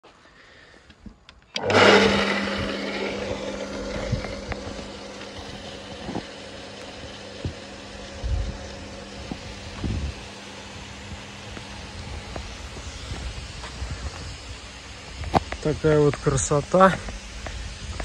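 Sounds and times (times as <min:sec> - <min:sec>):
electric water pump humming: 0:01.5 - 0:18.0.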